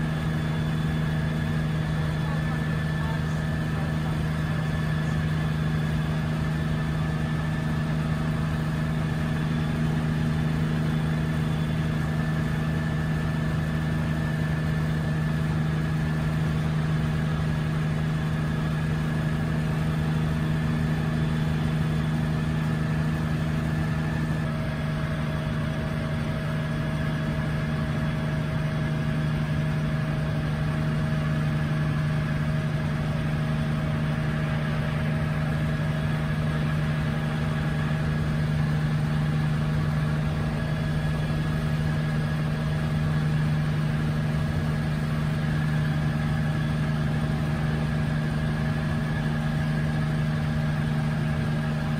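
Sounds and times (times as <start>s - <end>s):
helicopter engine and rotor drone: 0.0s - 51.9s.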